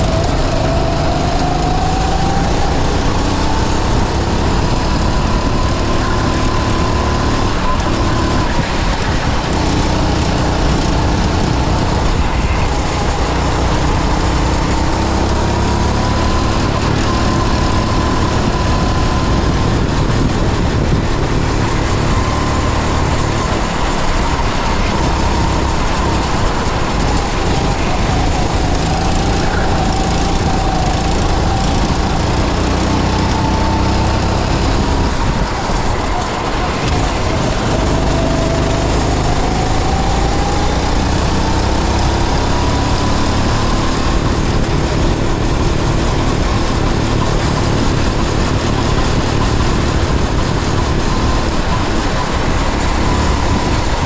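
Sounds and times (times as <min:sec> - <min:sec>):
go-kart engine revving: 0:00.0 - 0:54.0
road and wind noise: 0:00.0 - 0:54.0.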